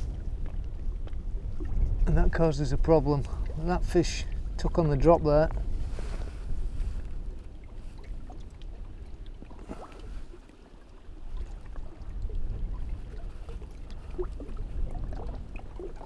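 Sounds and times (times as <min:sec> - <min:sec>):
small waves lapping: 0:00.0 - 0:16.0
wind buffeting microphone: 0:00.0 - 0:16.0.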